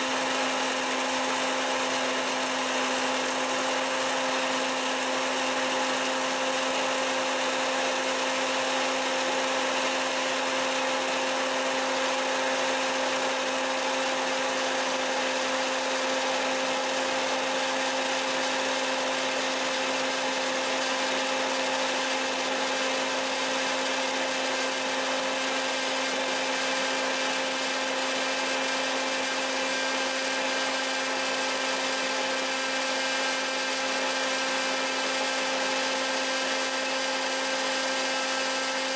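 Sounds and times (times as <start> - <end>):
popcorn maker fan-motor hum: 0.0 - 38.9.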